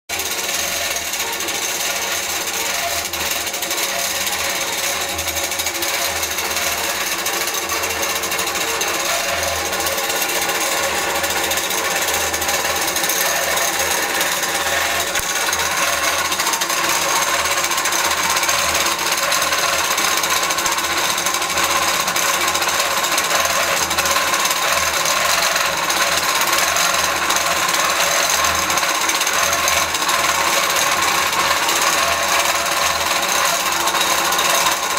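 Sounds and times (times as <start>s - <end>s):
quilting machine stitching rapidly: 0.1s - 34.9s.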